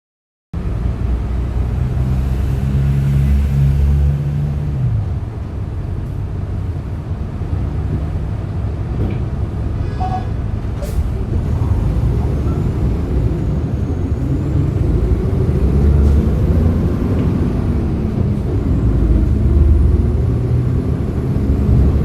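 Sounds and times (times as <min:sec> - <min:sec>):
bus engine running: 0:00.6 - 0:22.0
road rumble: 0:00.6 - 0:22.0.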